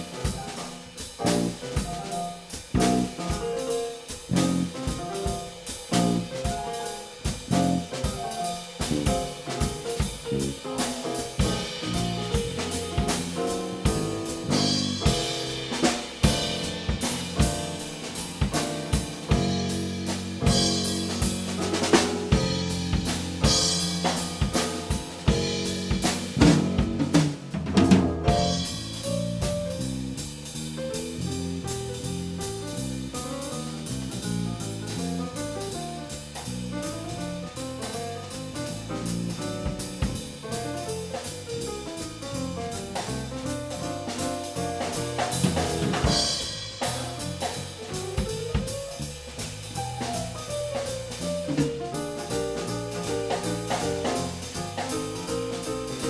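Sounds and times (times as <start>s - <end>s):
drum kit: 0.0s - 56.0s.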